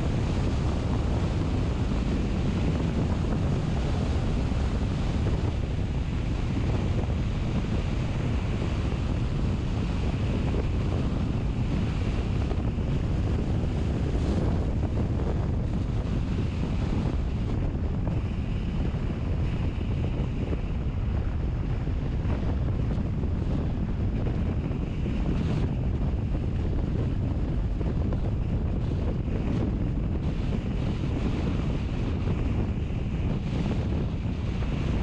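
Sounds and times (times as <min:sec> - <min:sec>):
vehicle wind and road noise: 0:00.0 - 0:35.0.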